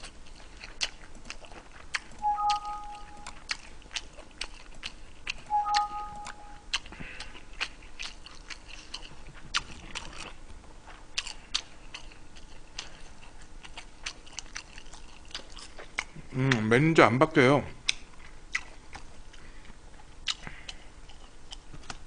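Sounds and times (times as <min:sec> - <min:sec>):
person chewing crunchy food: 0:00.0 - 0:16.7, 0:17.8 - 0:22.0.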